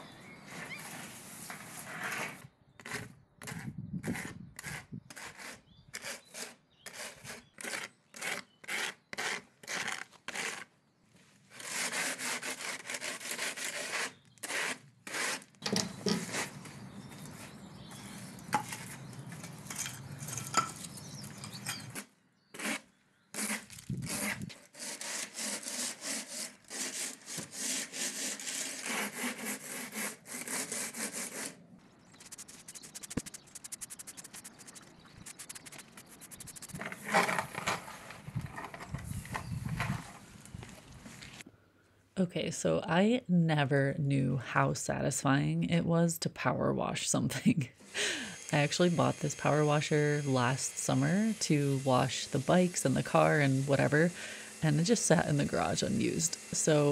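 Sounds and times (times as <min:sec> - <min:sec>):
rake scraping stone paving: 0:00.5 - 0:10.7, 0:11.3 - 0:41.4, 0:48.2 - 0:56.9.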